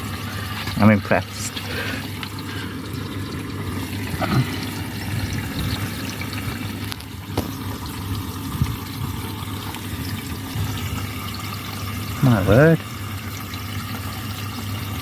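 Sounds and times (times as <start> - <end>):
water rushing into washing machine: 0.0 - 15.0.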